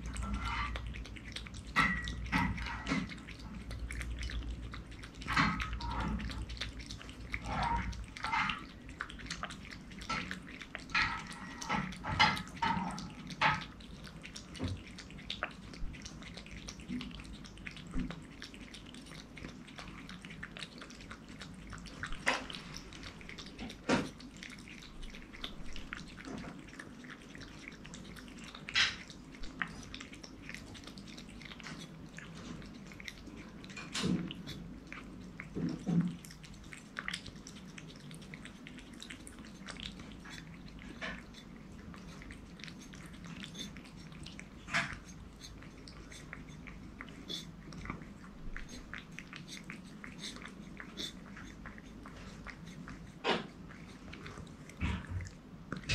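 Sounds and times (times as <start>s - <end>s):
cat licking and chewing: 0.0s - 55.9s.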